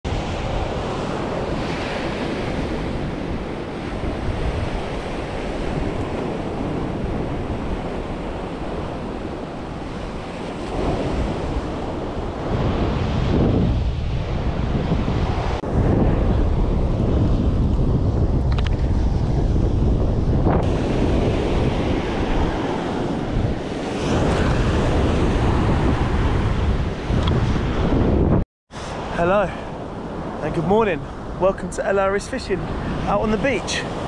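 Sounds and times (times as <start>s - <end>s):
surf breaking on beach: 0.1s - 34.0s
wind buffeting microphone: 0.1s - 34.0s.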